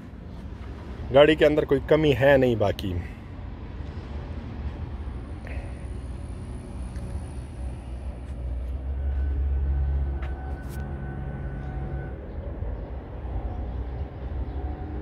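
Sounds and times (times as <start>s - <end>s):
vehicle engine rumbling: 0.0s - 15.0s
steady whine: 2.9s - 15.0s.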